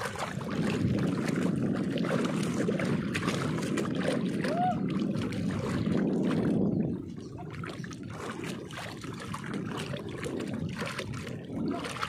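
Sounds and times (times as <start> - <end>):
sea water sloshing and lapping: 0.0 - 12.0
small splashes and drips: 0.0 - 12.0.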